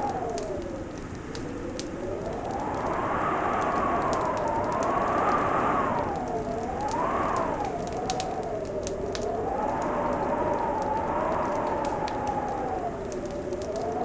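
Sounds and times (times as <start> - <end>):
fireplace crackling: 0.0 - 14.0
wavering howl: 0.0 - 14.0.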